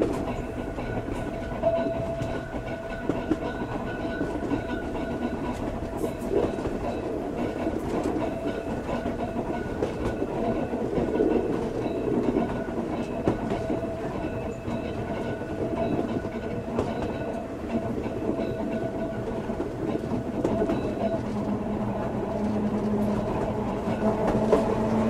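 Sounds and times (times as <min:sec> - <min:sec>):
train rumble and hum: 0:00.0 - 0:25.0
wheels clicking over rail joints: 0:00.0 - 0:25.0.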